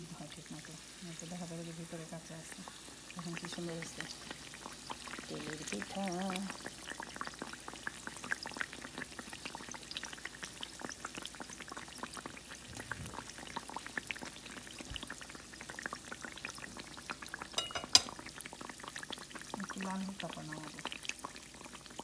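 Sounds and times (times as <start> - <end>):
batter deep-frying in oil: 0.0 - 22.0.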